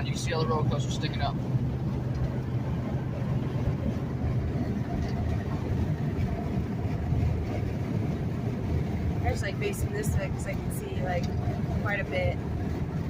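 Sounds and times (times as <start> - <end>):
road noise: 0.0 - 13.0
truck engine hum: 0.0 - 13.0.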